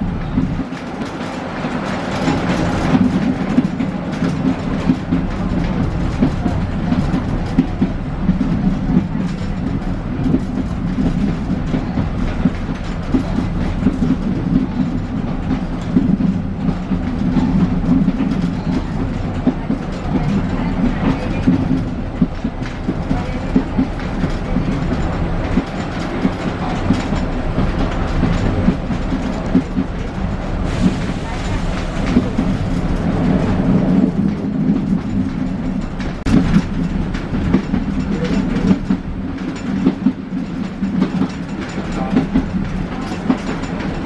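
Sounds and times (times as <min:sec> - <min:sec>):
low drone of train: 0:00.0 - 0:44.0.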